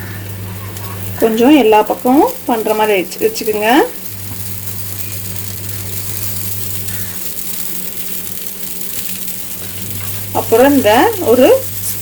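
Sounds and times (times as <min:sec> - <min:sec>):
batter sizzling on a griddle: 0:00.0 - 0:12.0.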